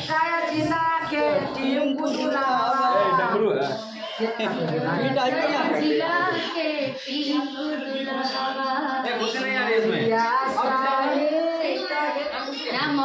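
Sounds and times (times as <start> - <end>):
crowd chatter: 0.0 - 13.0
people singing together: 0.0 - 13.0.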